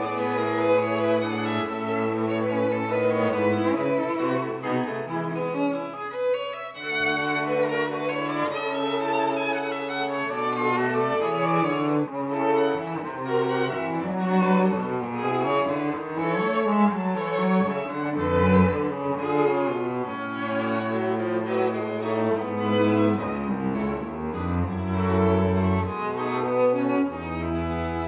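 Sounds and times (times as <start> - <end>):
cello and violin notes: 0.0 - 28.0.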